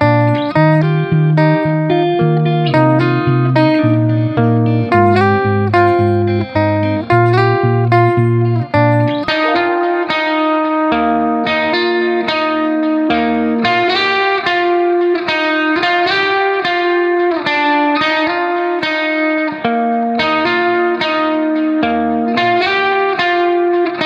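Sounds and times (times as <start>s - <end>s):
plucked-string melody: 0.0s - 24.0s.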